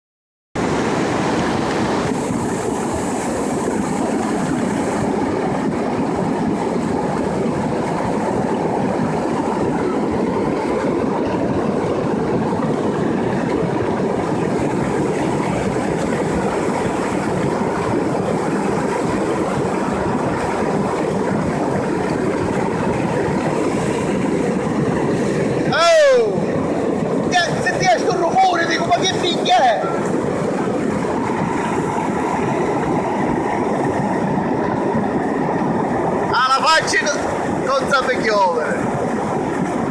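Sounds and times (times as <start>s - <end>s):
floodwater rushing: 0.6s - 39.9s.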